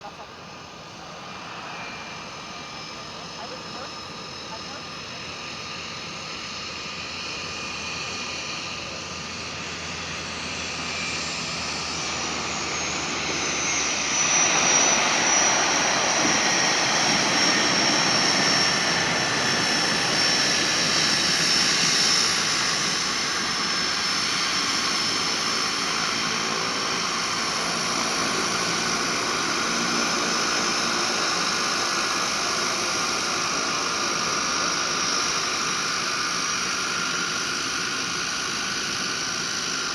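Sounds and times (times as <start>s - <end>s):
plane engine and propeller drone: 0.0s - 39.9s.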